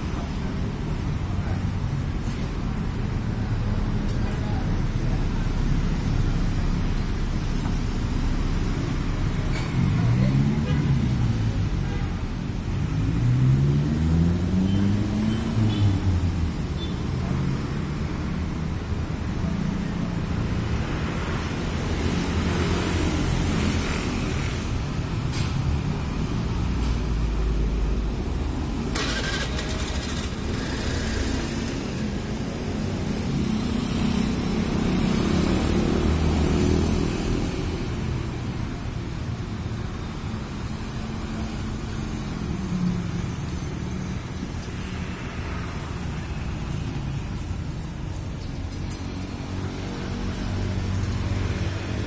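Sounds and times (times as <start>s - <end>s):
passing vehicle engines: 0.0s - 52.0s.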